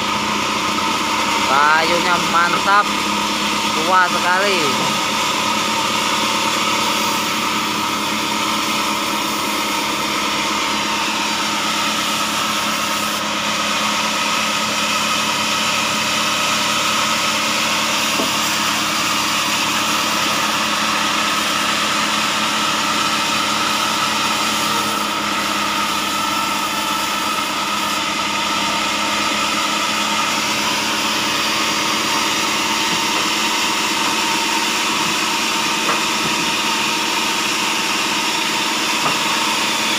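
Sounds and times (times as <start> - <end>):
band sawmill mechanical drone: 0.0 - 39.9.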